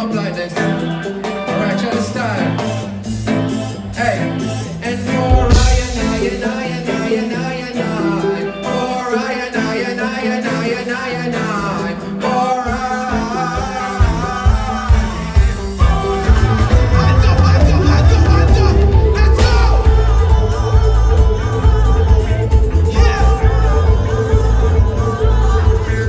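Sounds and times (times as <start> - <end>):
live reggae band: 0.0 - 26.0.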